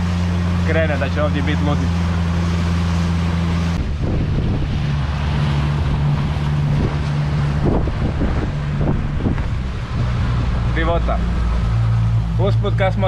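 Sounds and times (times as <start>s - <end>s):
boat engine droning: 0.0s - 13.0s
water rushing: 0.0s - 13.0s
wind buffeting microphone: 0.0s - 13.0s.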